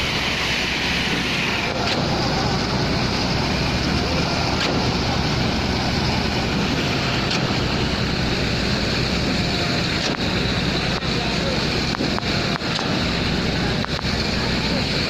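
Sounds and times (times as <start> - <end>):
machinery engine humming: 0.0 - 15.0.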